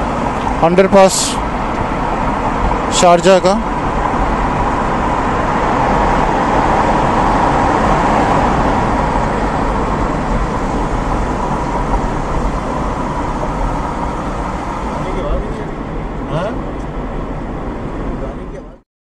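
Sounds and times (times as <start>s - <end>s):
car road and engine noise: 0.0s - 18.8s.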